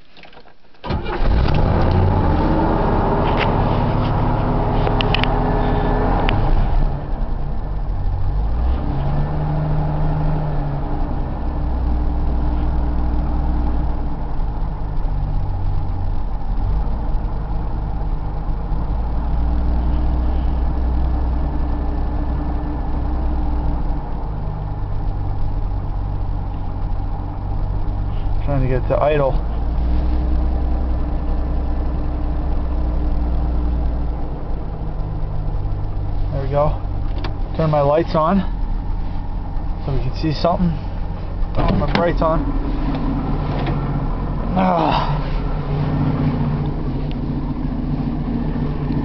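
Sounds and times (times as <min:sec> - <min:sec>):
car engine cold-starting and idling: 0:00.0 - 0:49.0.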